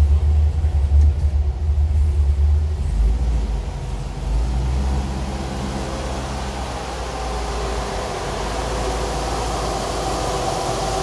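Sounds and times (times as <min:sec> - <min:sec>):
car engine idling deep rumble: 0:00.0 - 0:11.0.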